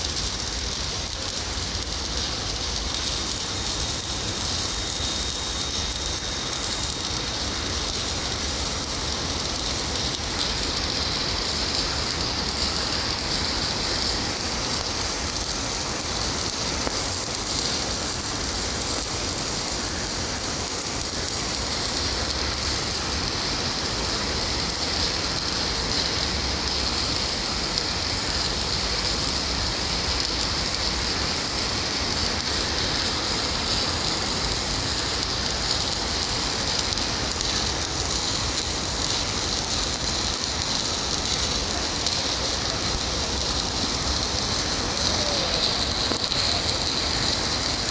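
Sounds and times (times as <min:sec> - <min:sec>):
arc welding crackling hiss: 0:00.0 - 0:47.9.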